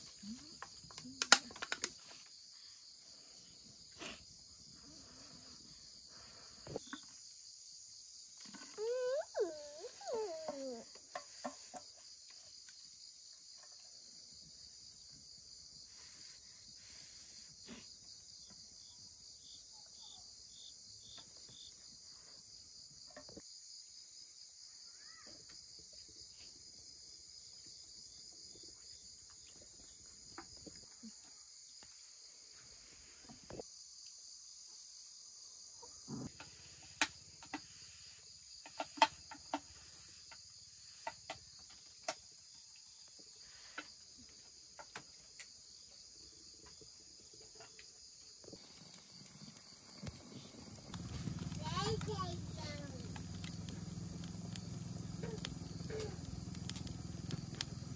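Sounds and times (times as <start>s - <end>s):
insect chorus chirping: 0.0s - 57.9s.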